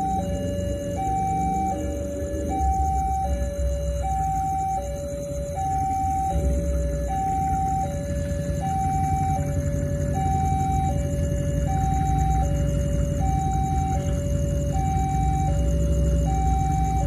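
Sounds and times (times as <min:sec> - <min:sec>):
level crossing two-tone alarm: 0:00.0 - 0:17.0.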